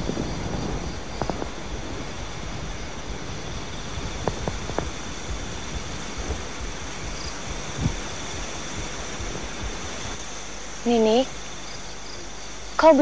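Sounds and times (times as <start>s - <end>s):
crickets chirring: 0.0s - 13.0s
steady hiss: 0.0s - 13.0s.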